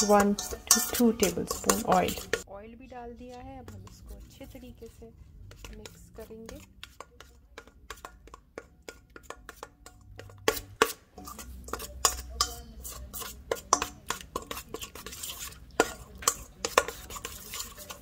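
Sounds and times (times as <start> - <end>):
metal spoon scraping steel bowl: 0.0 - 2.5, 3.1 - 18.0.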